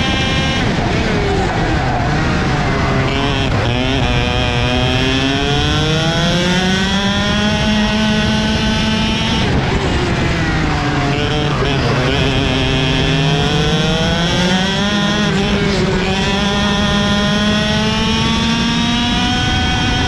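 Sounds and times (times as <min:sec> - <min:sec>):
kart engine accelerating: 0:00.0 - 0:20.0
other kart engines: 0:00.0 - 0:20.0.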